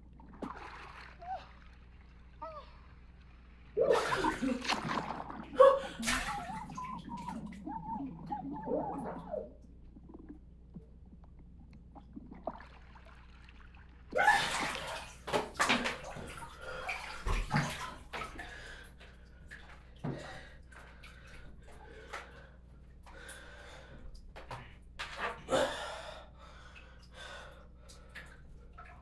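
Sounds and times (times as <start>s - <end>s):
water sloshing and splashing: 0.0s - 25.5s, 26.6s - 29.0s.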